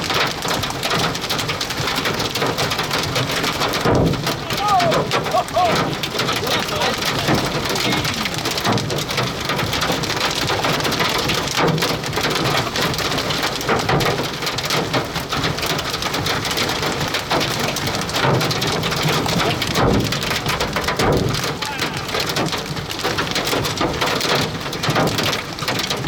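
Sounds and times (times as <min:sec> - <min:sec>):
heavy rain and hail on a vehicle: 0:00.0 - 0:26.0.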